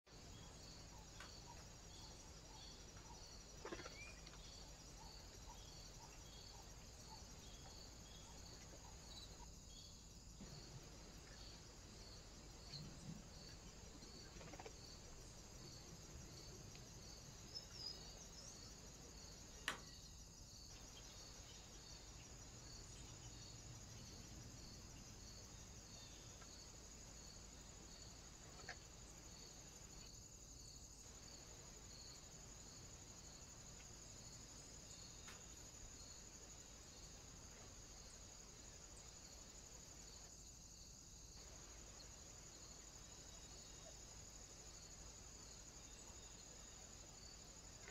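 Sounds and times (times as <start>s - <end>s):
faint recording hiss: 0.1s - 47.9s.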